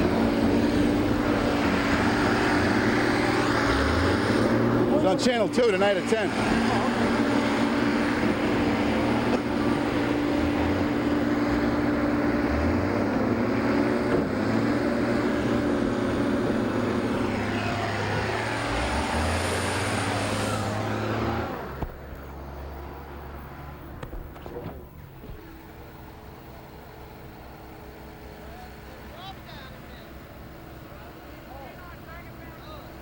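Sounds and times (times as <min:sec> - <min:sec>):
motor vehicle engine running: 0:00.0 - 0:33.0.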